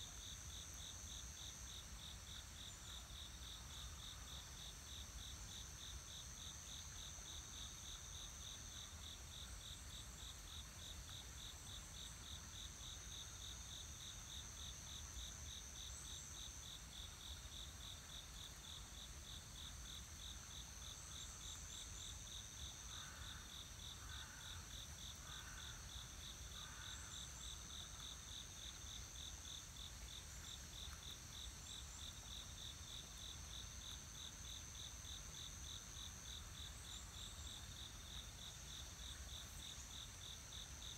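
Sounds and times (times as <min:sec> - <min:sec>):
low insect chirps: 0:00.1 - 0:40.9.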